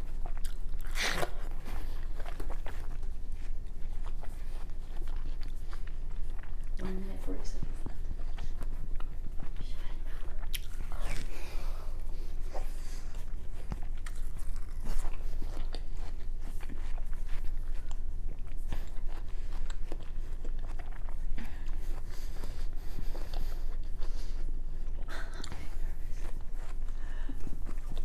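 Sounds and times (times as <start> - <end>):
chewing watermelon: 0.0 - 28.0.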